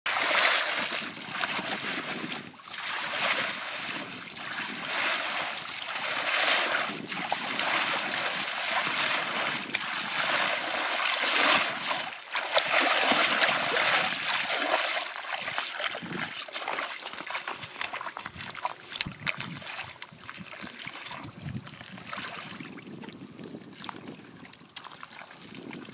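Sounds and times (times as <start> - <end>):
water splashing by hand: 0.1 - 25.9.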